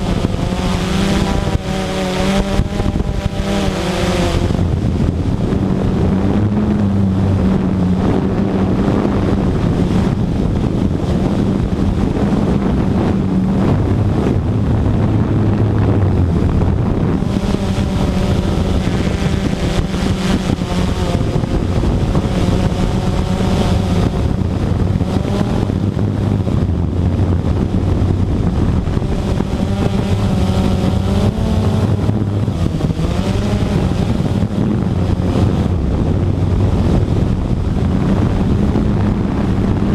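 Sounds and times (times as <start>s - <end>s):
model aircraft motor running: 0.0s - 39.9s
wind rumbling on microphone: 0.0s - 39.9s.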